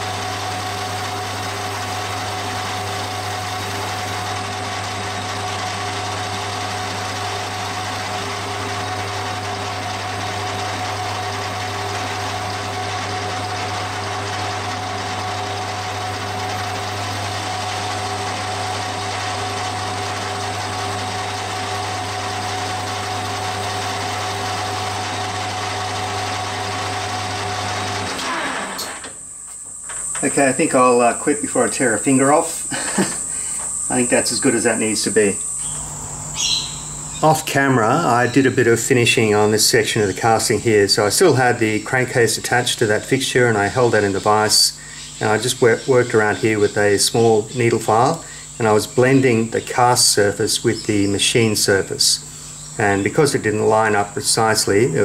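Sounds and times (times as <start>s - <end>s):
metal lathe motor hum: 0.0s - 55.0s.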